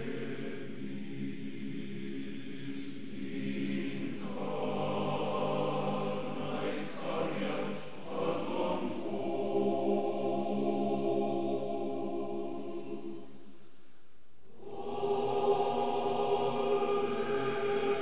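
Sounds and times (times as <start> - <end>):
choir singing slow chords: 0.0 - 18.0.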